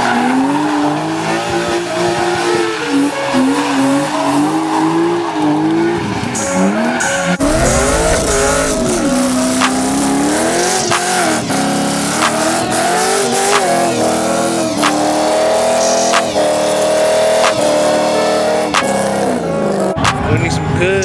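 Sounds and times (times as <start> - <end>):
car engine revving: 0.0 - 20.1
tires squealing: 0.0 - 21.0.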